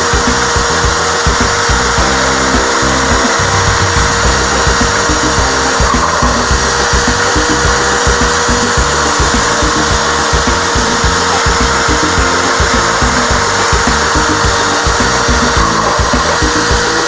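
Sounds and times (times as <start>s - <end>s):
background music: 0.0s - 17.0s
power tool running: 0.0s - 17.0s.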